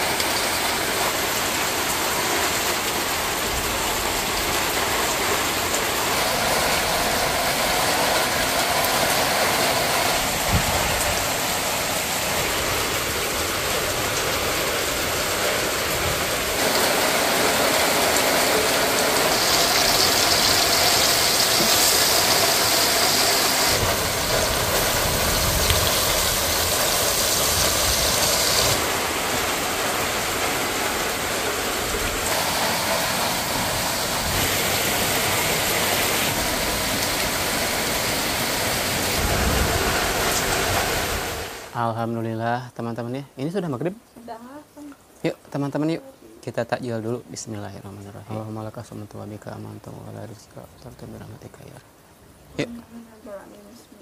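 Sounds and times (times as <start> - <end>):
heavy rain: 0.0 - 42.2, 43.4 - 54.0.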